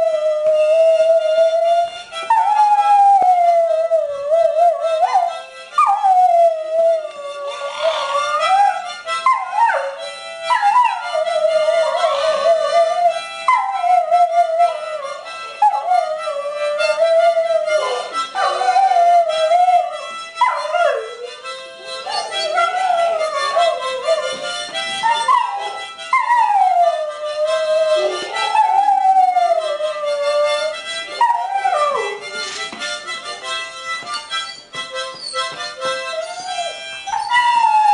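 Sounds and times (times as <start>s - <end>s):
harmonica chords: 0.0s - 37.9s
dog howling: 2.3s - 21.4s, 22.0s - 24.4s, 25.0s - 32.3s, 35.2s - 37.9s.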